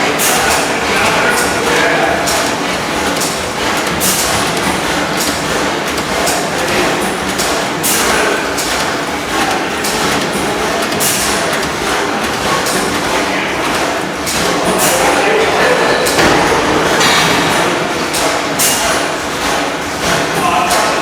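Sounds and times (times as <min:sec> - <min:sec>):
machinery clatter: 0:00.0 - 0:21.0
stationary gas engine running: 0:00.0 - 0:21.0.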